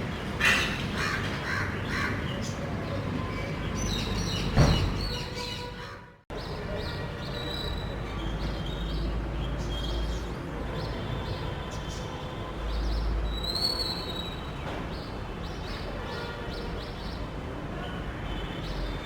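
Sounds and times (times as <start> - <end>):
birds chirping: 0.0 - 17.4.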